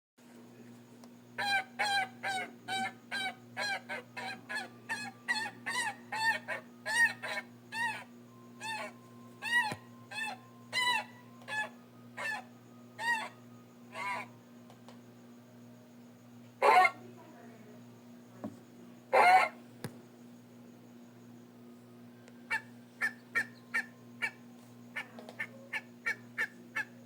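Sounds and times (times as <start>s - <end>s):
steady low hum: 0.2s - 27.0s.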